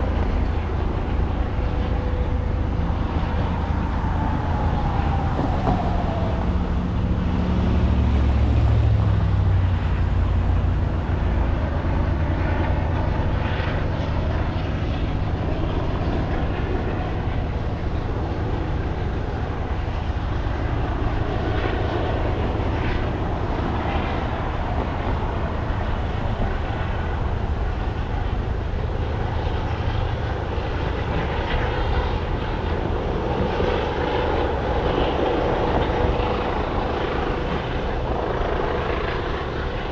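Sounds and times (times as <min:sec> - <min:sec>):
low engine drone: 0:00.0 - 0:39.9.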